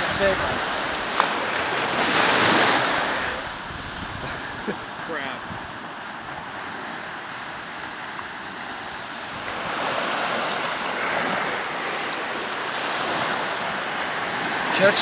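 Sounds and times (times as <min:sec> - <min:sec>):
wind buffeting microphone: 0:00.0 - 0:14.8
ocean surf washing on beach: 0:00.0 - 0:15.0.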